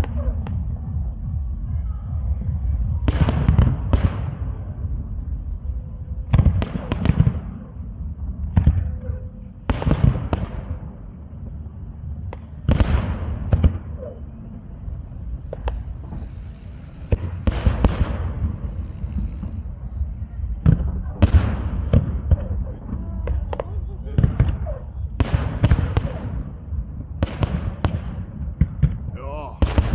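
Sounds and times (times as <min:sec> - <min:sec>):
steady low rumble: 0:00.0 - 0:29.9.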